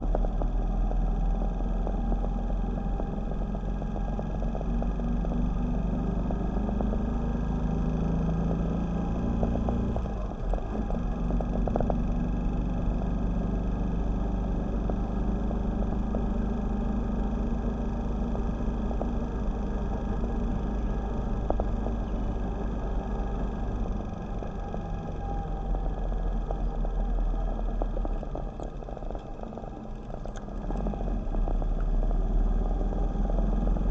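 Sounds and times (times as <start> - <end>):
motorcycle engine running: 0.0 - 33.9
road and wind noise: 0.0 - 33.9.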